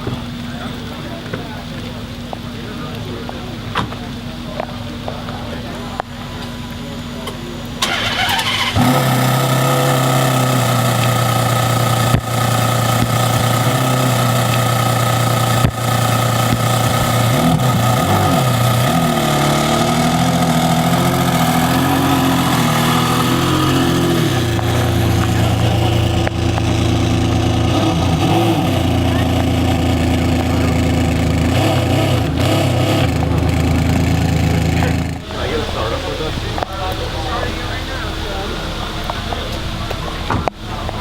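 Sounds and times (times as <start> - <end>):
car engine starting and idling: 0.0 - 41.0.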